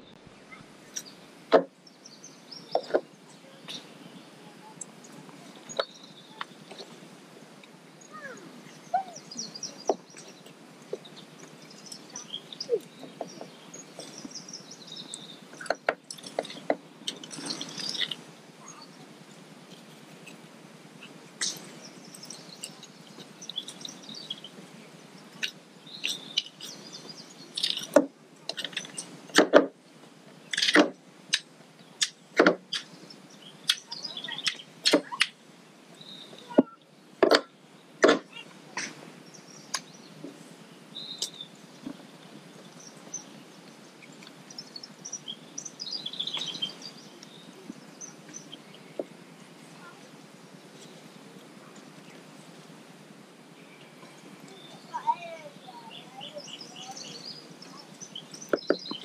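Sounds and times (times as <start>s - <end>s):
birds chirping faintly: 0.0s - 59.0s.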